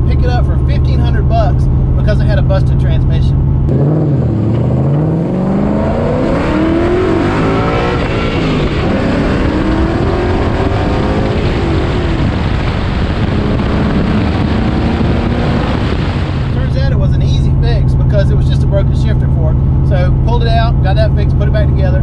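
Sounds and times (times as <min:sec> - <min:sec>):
car engine accelerating: 0:00.0 - 0:22.0
tyre and road noise: 0:00.0 - 0:22.0.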